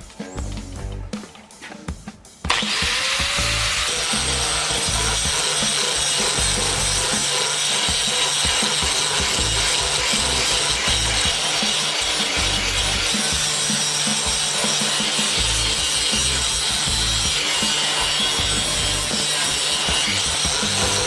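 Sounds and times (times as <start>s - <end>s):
electric grinder on steel: 2.5s - 21.0s.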